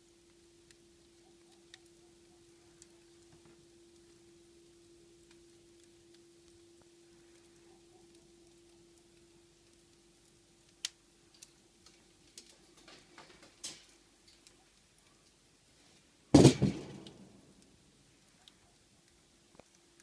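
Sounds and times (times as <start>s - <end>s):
faint steady hum: 0.0s - 20.0s
fire crackling and popping: 0.0s - 20.0s
loud fire crack: 0.0s - 20.0s.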